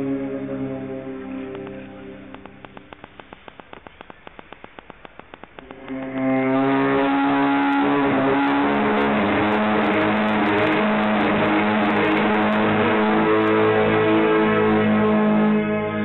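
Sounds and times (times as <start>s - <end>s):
sustained drone: 0.0s - 16.0s.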